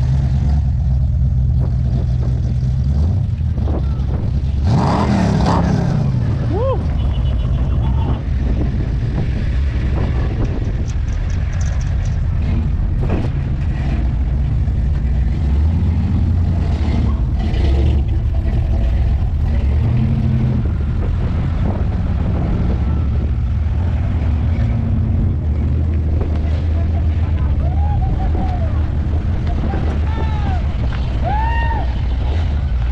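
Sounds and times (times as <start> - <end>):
car engines rumbling: 0.0 - 32.9.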